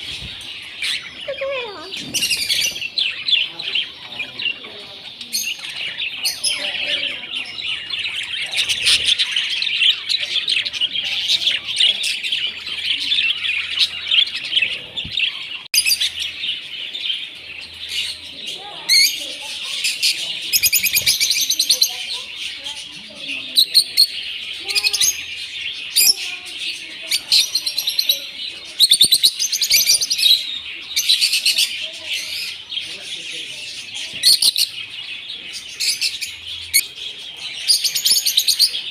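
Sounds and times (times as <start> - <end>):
small birds chattering: 0.0 - 38.9.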